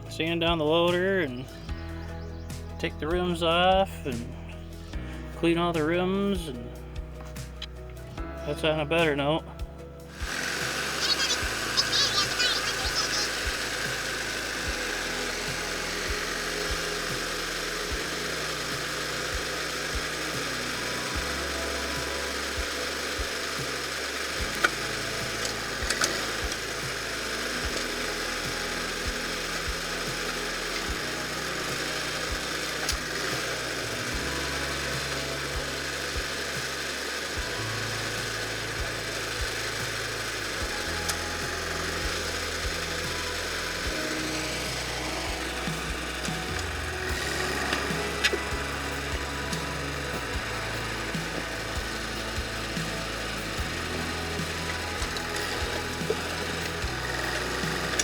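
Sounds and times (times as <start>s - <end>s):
background music with bass line: 0.0s - 58.0s
power sander rasping on metal: 10.0s - 58.0s.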